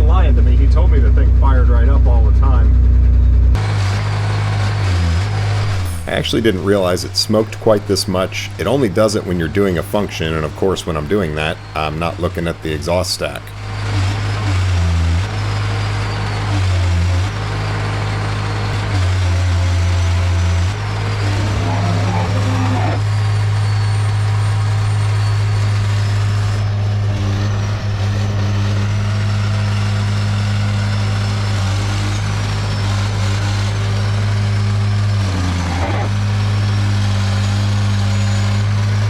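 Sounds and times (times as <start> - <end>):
excavator diesel engine running: 0.4 - 39.0.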